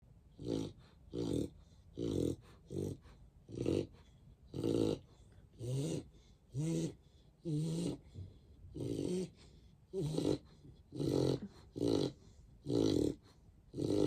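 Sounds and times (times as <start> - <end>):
dog snoring: 0.3 - 14.0.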